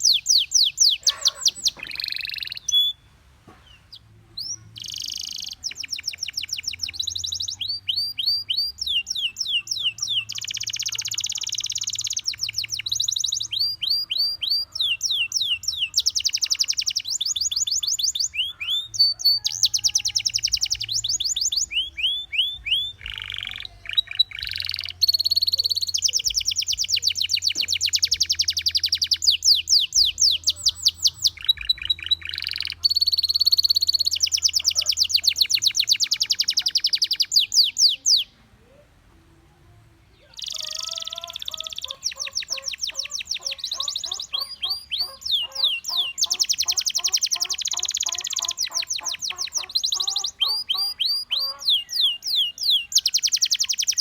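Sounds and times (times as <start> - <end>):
canary singing trills: 0.0 - 39.0, 39.6 - 54.0.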